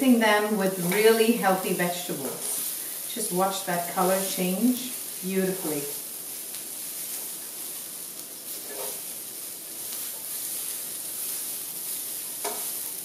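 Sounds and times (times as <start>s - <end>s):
food frying in hot oil: 0.0s - 13.0s.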